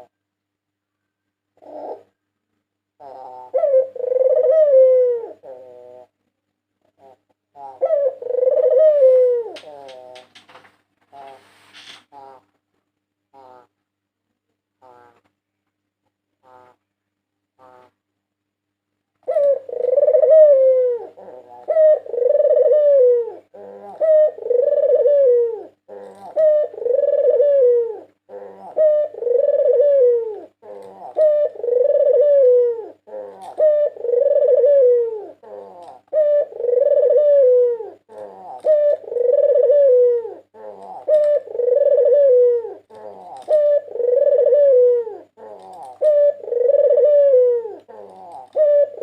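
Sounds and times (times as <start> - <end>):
dove cooing: 0.0 - 0.2, 1.5 - 2.3, 2.9 - 6.2, 6.8 - 12.5, 13.3 - 13.8, 19.2 - 49.0.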